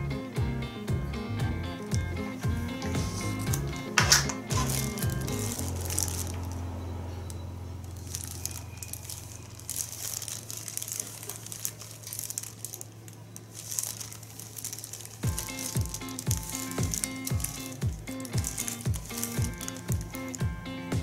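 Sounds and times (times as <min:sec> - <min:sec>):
plastic bag crinkling: 0:01.8 - 0:06.6, 0:07.8 - 0:21.0.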